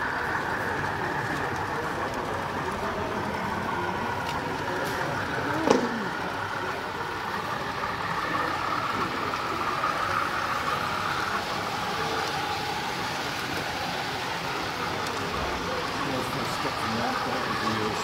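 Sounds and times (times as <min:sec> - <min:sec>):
murmur of voices: 0:00.0 - 0:18.0.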